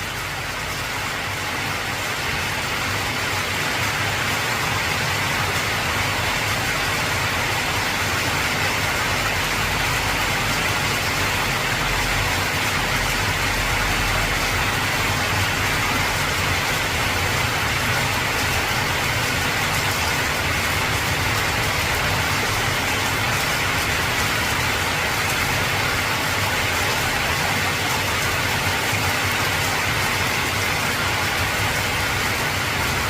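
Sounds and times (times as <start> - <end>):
heavy rain on a tin roof: 0.0 - 33.0.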